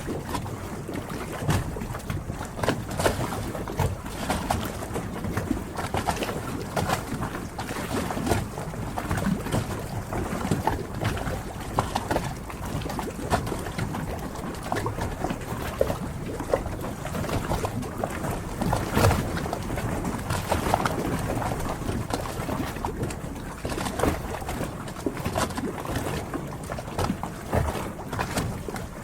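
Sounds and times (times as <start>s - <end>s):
water lapping and sloshing: 0.0s - 29.0s.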